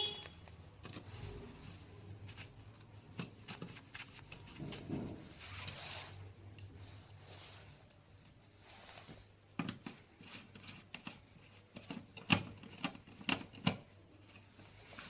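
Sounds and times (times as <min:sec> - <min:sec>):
soft rustling: 0:00.0 - 0:12.2, 0:13.8 - 0:15.0.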